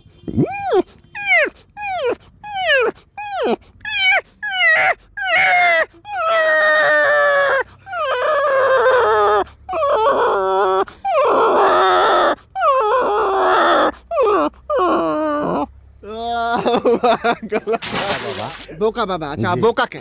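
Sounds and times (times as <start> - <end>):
man imitating dog whining: 0.0 - 16.7.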